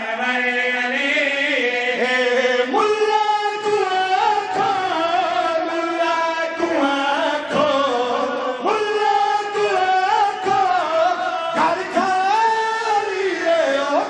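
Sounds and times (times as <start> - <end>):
men singing into microphones: 0.0 - 14.0.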